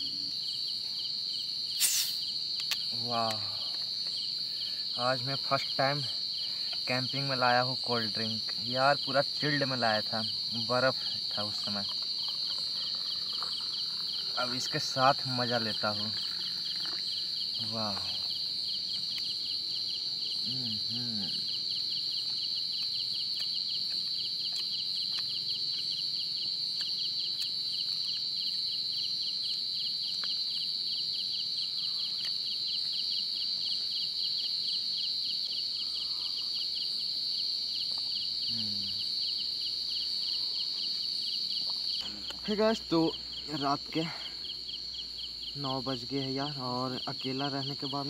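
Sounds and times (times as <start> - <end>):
crickets trilling: 0.0 - 48.0
pulsing insect chirp: 0.0 - 48.0.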